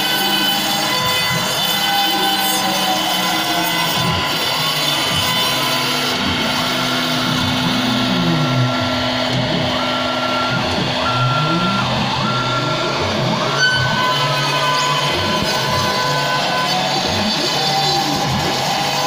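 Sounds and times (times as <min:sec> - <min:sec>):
stepper motors whining: 0:00.0 - 0:19.0.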